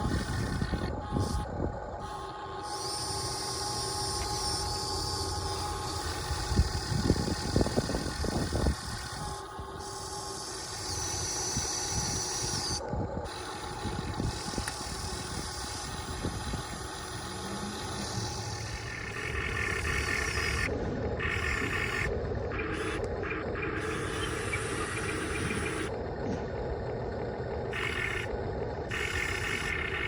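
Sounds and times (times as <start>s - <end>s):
high motor whine: 0.0s - 30.0s
model excavator motor hum: 0.0s - 30.0s.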